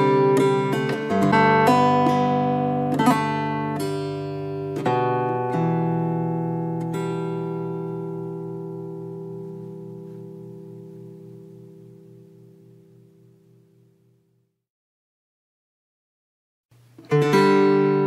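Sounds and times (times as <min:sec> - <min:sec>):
acoustic guitar: 0:00.0 - 0:14.2, 0:16.7 - 0:18.0.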